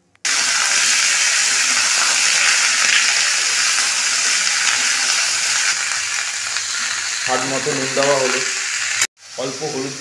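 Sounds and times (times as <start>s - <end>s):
vegetables sizzling in a wok: 0.2s - 10.0s.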